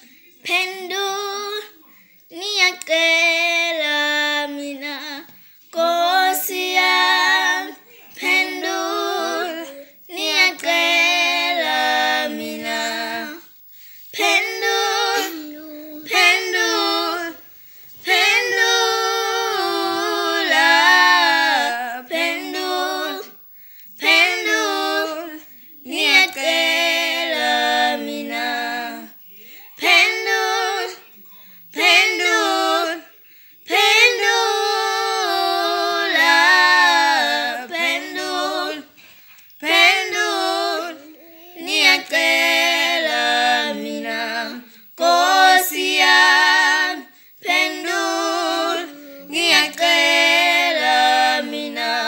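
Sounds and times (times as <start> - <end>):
woman and girl singing: 0.0 - 52.0.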